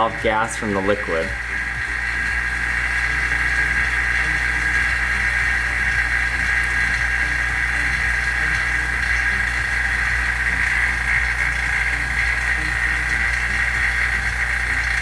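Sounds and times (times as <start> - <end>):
vacuum pump drone: 0.0 - 15.0.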